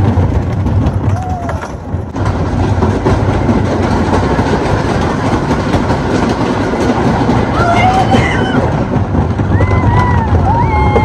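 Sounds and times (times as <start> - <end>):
roller coaster rattling on wooden track: 0.0 - 11.0.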